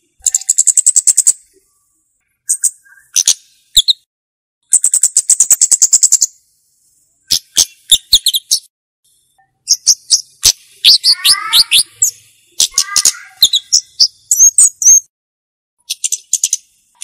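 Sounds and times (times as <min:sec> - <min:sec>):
bird chip notes and ticks: 0:00.2 - 0:06.4, 0:07.3 - 0:15.1, 0:15.8 - 0:17.0.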